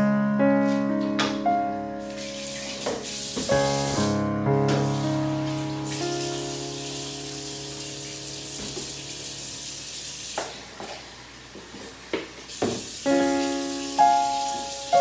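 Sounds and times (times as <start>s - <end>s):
piano-like music: 0.0s - 10.2s, 13.0s - 15.0s.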